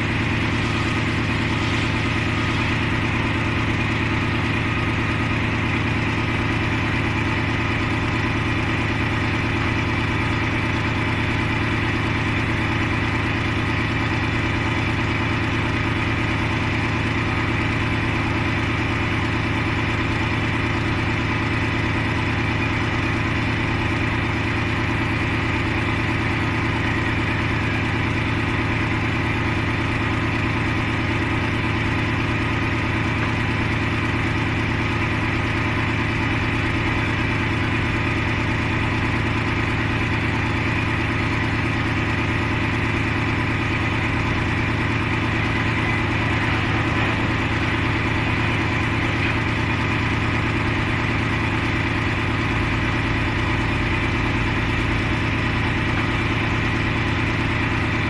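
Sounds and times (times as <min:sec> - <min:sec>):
heavy engine idling: 0:00.0 - 0:58.0.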